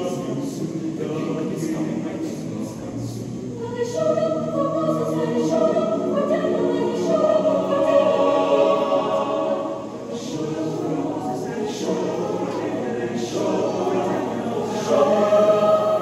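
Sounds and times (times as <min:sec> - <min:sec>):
mixed choir singing held chords: 0:00.0 - 0:16.0.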